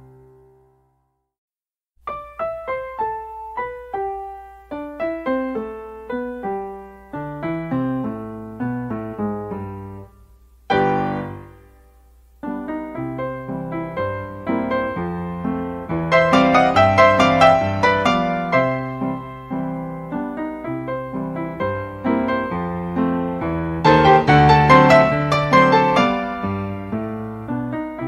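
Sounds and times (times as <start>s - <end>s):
solo piano music: 0.0s - 1.1s, 2.0s - 28.0s.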